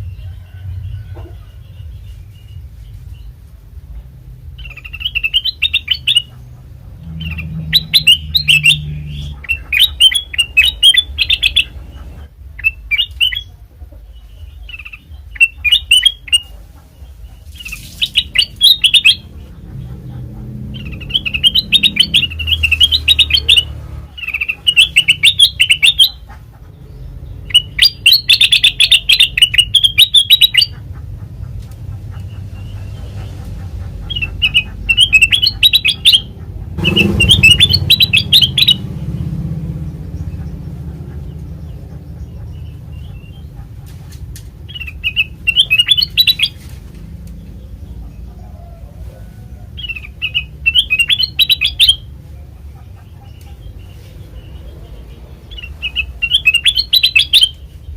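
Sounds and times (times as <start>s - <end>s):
bird chirping song: 0.0s - 57.9s
steady low hum: 0.0s - 57.9s.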